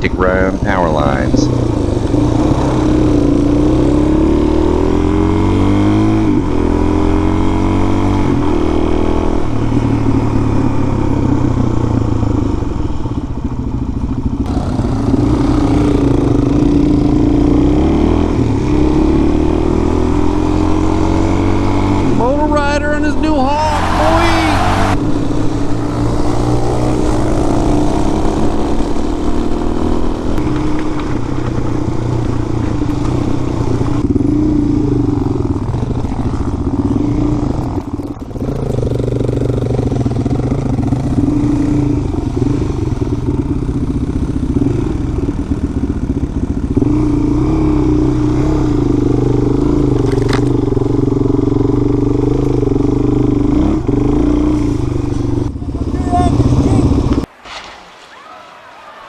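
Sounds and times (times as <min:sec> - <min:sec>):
dirt bike engine revving: 0:00.0 - 0:11.9, 0:14.4 - 0:57.3.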